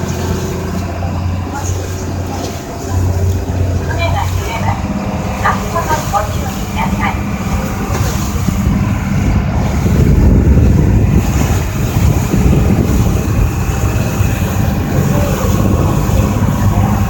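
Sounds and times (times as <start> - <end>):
ferry diesel engine rumbling: 0.0 - 17.0.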